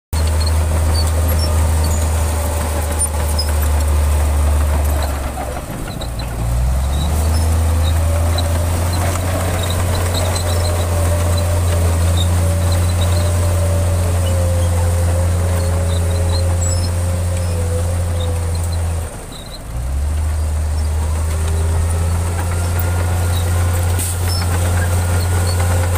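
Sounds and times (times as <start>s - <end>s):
bulldozer diesel engine drone: 0.1s - 25.9s.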